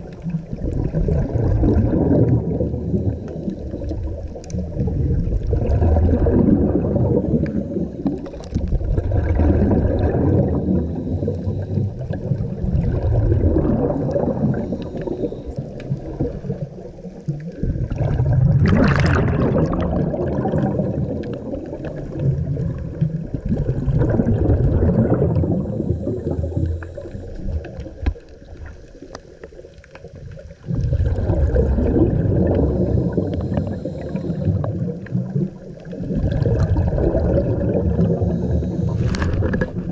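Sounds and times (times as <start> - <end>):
exhaled bubbles gurgling underwater: 0.0 - 39.9.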